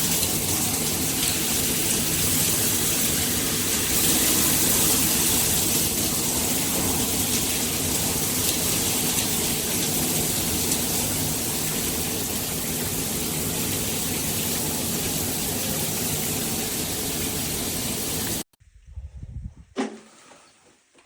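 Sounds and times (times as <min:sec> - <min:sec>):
shower water spraying: 0:00.0 - 0:18.5.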